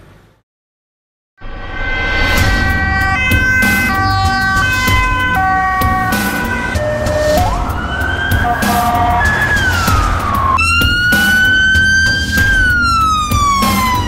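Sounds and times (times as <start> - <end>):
wail siren rising in pitch: 2.2 - 14.0
emergency vehicle sirens: 2.4 - 14.0.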